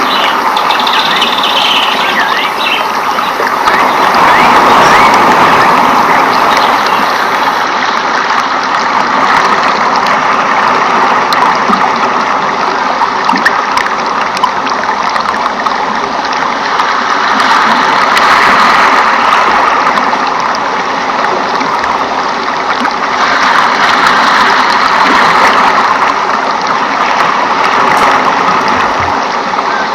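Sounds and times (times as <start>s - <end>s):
rushing water: 0.0s - 29.9s.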